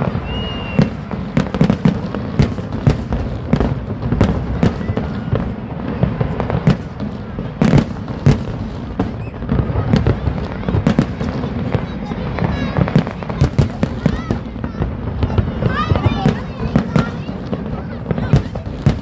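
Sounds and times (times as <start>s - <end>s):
distant fireworks rumble: 0.0s - 19.0s
fireworks bangs and pops: 0.0s - 19.0s.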